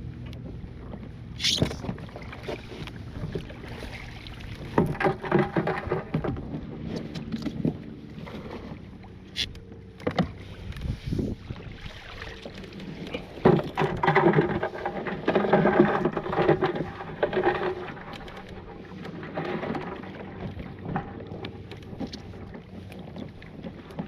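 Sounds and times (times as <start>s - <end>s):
water splashing: 1.4s - 24.0s.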